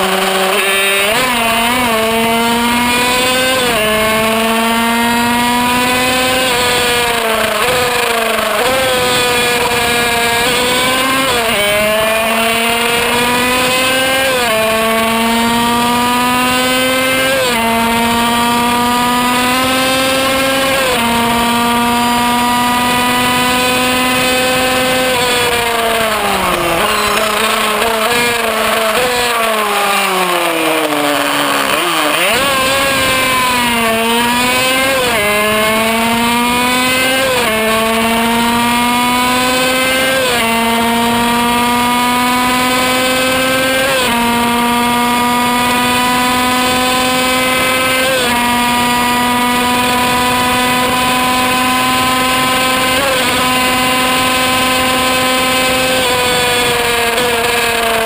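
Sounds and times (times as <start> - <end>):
racing engine revving and shifting gears: 0.0 - 58.0.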